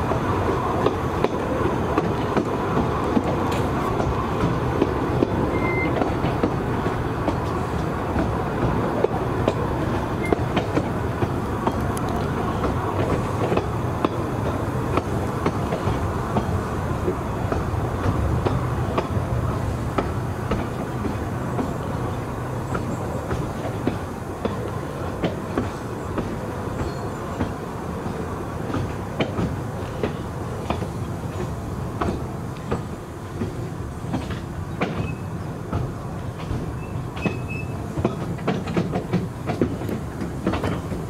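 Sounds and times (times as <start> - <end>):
train rolling rumble: 0.0 - 41.0
wheels clicking over rail joints: 0.8 - 41.0.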